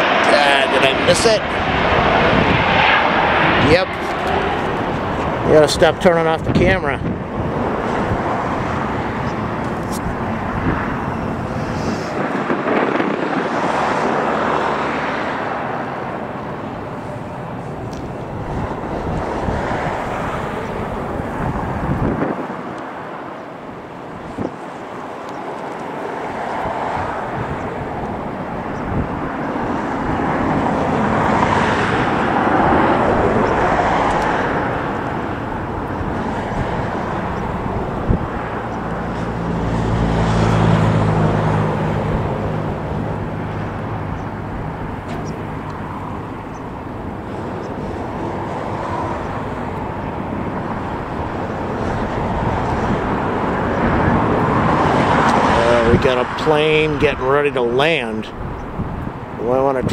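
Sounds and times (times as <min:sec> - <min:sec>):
jet engine rumble: 0:00.0 - 0:59.9
wind buffeting microphone: 0:00.0 - 0:59.9.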